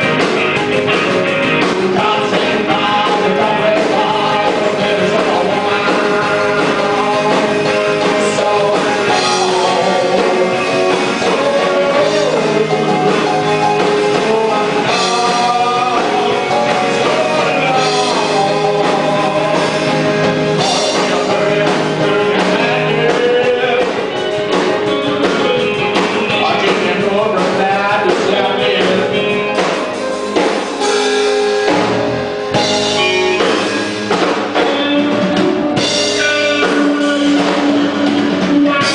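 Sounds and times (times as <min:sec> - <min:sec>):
bass: 0:00.0 - 0:38.9
drum kit: 0:00.0 - 0:38.9
electric guitar: 0:00.0 - 0:38.9
person singing: 0:00.0 - 0:38.9.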